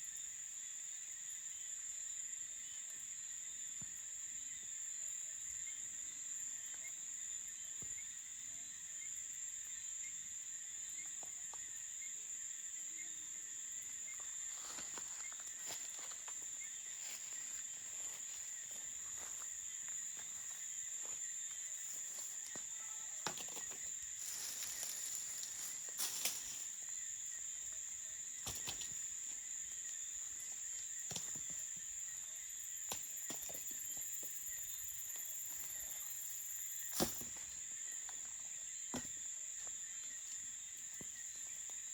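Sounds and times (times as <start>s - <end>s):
crickets chirring: 0.0s - 41.9s.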